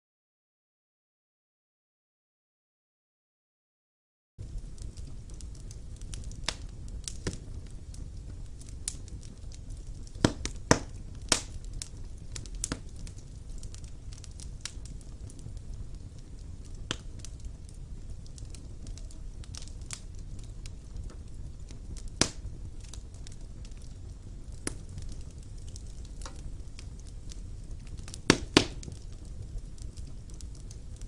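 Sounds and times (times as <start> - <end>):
fire crackling and popping: 4.4 - 31.0
low rumble of flames: 4.4 - 31.0.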